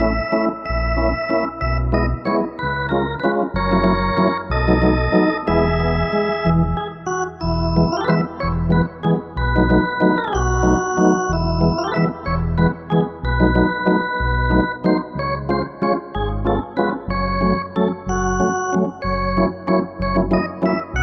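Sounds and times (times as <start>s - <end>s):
organ-like keyboard chords: 0.0s - 21.0s
pulsing bass: 0.0s - 21.0s.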